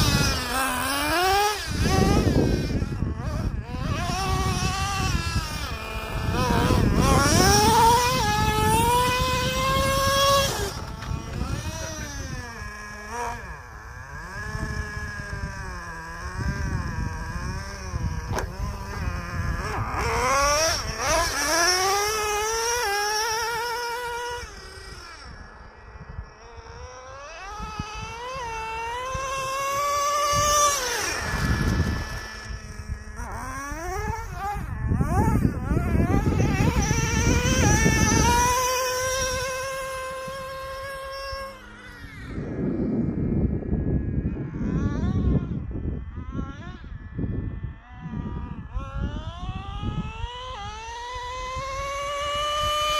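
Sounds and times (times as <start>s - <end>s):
small engine revving and whining: 0.0s - 52.9s.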